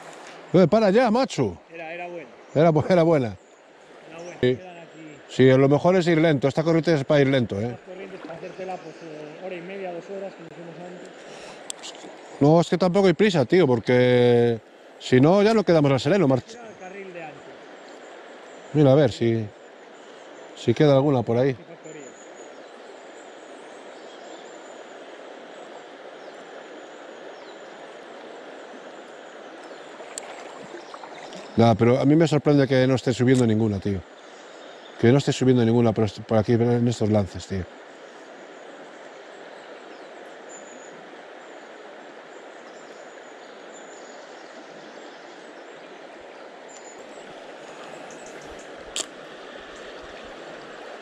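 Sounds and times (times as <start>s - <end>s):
river current rushing: 0.0s - 51.0s.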